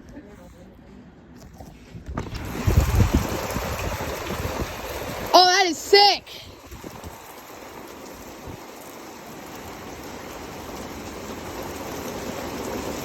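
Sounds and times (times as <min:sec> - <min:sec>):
heavy rain pouring: 0:02.2 - 0:13.0.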